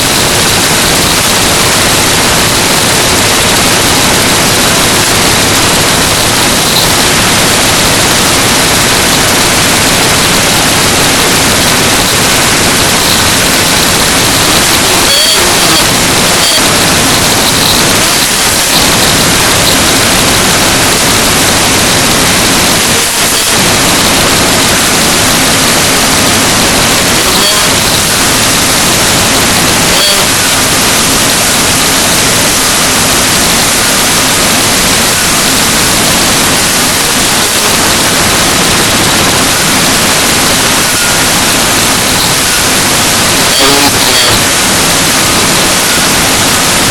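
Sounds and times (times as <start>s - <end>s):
loud static hiss: 0.0s - 46.9s.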